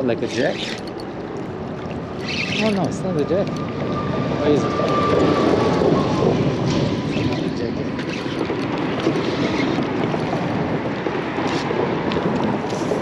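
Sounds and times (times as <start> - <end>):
moving water: 0.0 - 13.0
wind on microphone: 0.0 - 13.0.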